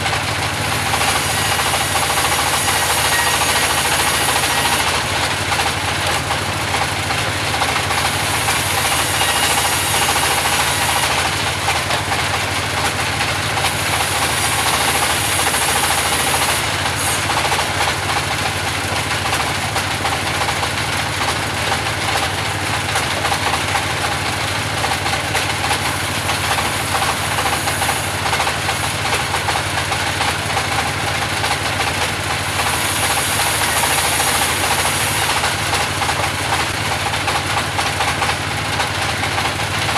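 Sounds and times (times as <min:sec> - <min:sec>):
band saw cutting timber: 0:00.0 - 0:39.9.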